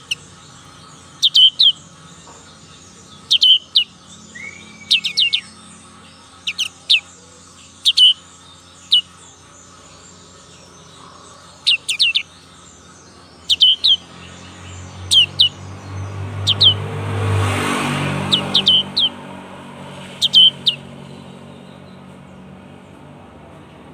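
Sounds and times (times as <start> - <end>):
bird high downward chirps: 0.0 - 22.5
low rumble of passing vehicle: 0.0 - 23.9.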